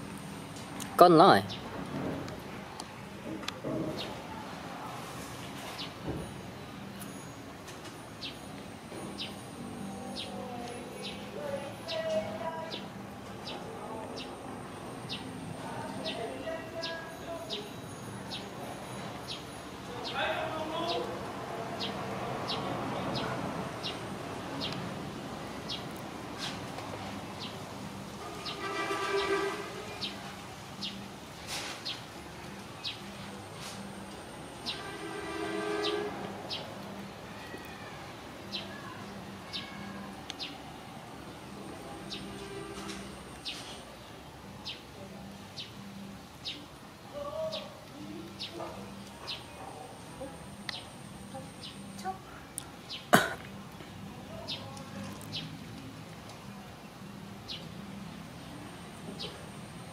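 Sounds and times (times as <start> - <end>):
faint outdoor background noise: 0.0 - 59.9.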